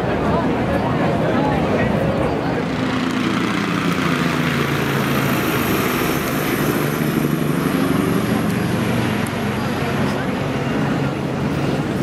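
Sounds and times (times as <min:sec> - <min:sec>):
helicopter engine drone: 0:00.0 - 0:12.0
helicopter rotor beating: 0:00.0 - 0:12.0.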